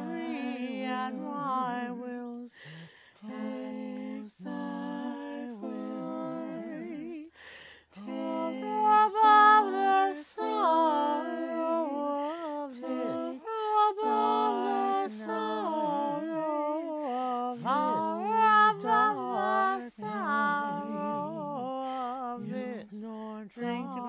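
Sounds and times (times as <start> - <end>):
woman singing layered vocals: 0.0 - 24.0.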